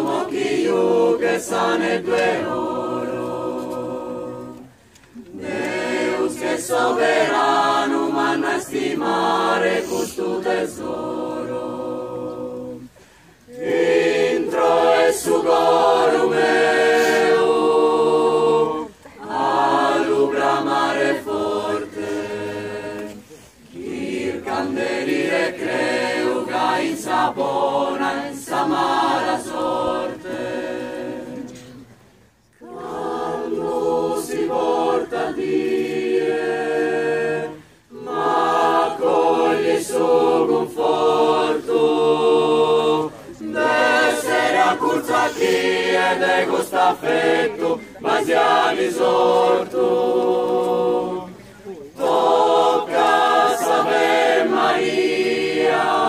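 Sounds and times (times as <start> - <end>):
women's choir singing a cappella: 0.0 - 56.0.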